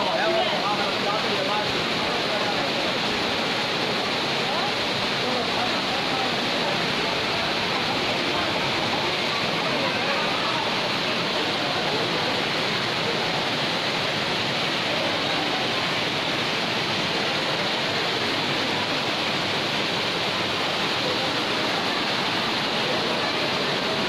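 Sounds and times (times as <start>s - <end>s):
water rushing down steps: 0.0s - 24.0s.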